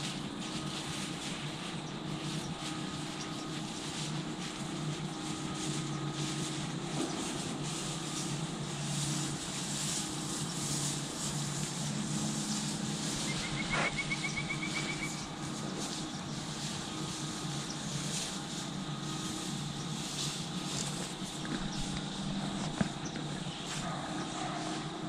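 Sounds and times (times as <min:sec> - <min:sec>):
distant engine drone: 0:00.0 - 0:25.0
steady hiss: 0:00.0 - 0:25.0.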